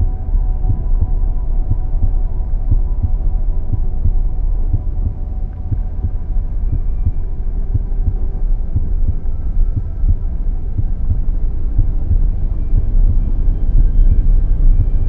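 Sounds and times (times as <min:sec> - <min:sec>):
constant low hum: 0:00.0 - 0:15.0
heartbeat thumps: 0:00.0 - 0:15.0.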